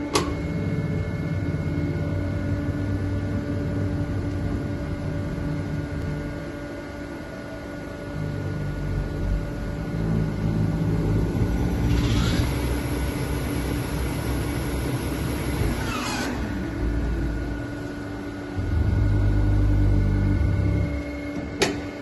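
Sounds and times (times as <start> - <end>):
lathe running with hum: 0.0 - 22.0
motor whine: 0.0 - 22.0.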